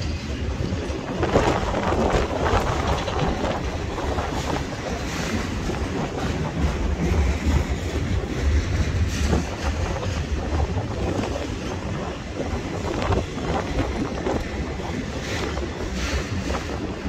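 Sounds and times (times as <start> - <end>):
train wheels rumbling on rail: 0.0 - 17.0
wind buffeting microphone: 0.0 - 17.0.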